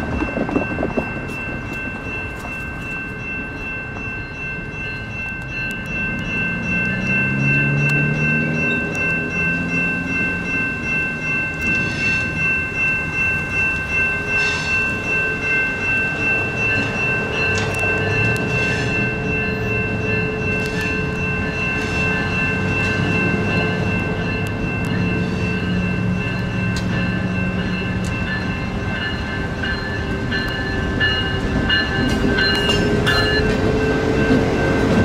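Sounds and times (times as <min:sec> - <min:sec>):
railroad crossing bells ringing: 0:00.0 - 0:35.0
train diesel engine running: 0:00.0 - 0:35.0.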